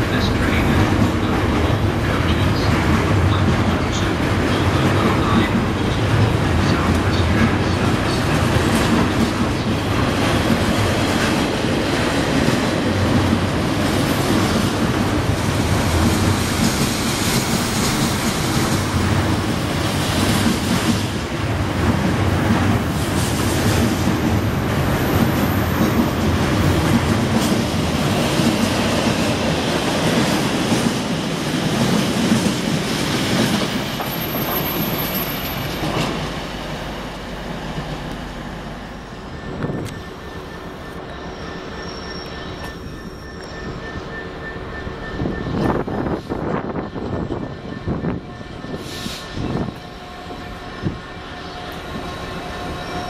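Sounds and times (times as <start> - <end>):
freight train rumbling: 0.0 - 53.0.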